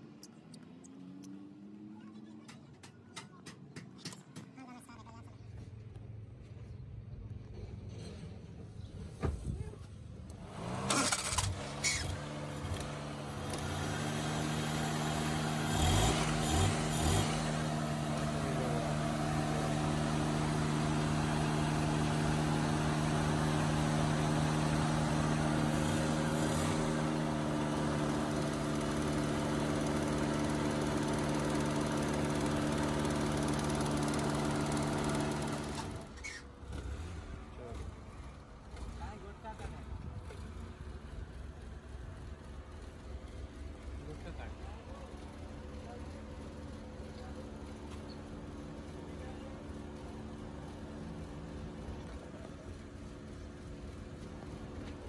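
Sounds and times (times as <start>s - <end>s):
small car engine idling: 10.1s - 55.0s.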